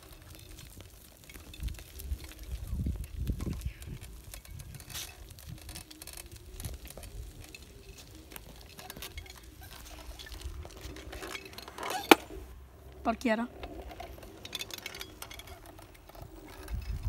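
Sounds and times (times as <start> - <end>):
tyre and frame noise: 0.0 - 17.0.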